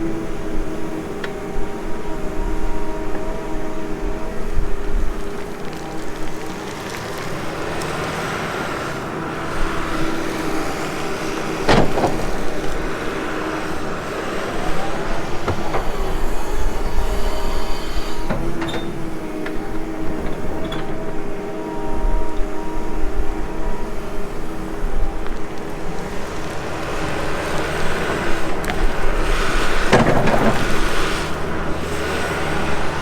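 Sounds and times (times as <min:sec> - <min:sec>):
excavator engine under load: 0:00.0 - 0:33.0
hydraulic whine: 0:00.0 - 0:33.0.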